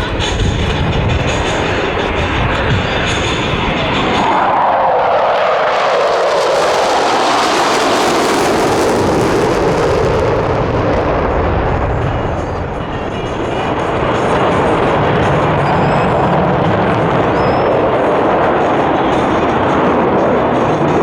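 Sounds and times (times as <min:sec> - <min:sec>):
aircraft flying past: 0:00.0 - 0:21.0.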